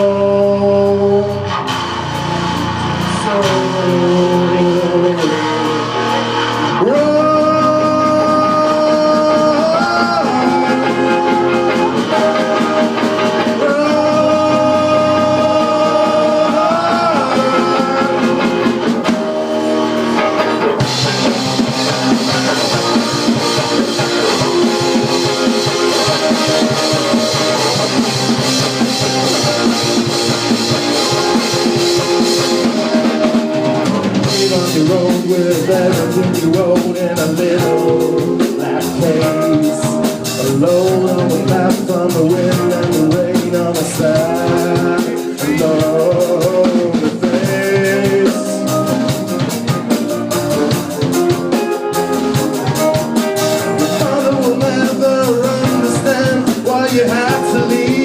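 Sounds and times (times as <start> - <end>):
drums and cymbals: 0.0 - 58.0
rock band playing: 0.0 - 58.0
sliding lead melody: 0.0 - 58.0.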